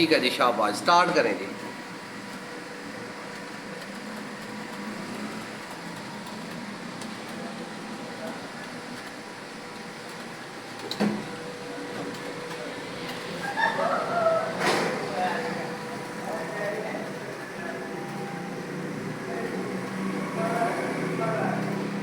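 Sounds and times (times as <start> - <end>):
steady room hum: 0.0 - 22.0.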